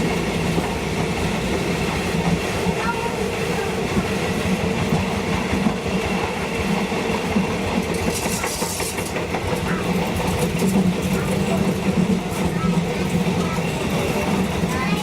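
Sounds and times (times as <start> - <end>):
train engine hum: 0.0 - 15.0
train wheels clickety-clack: 0.0 - 15.0.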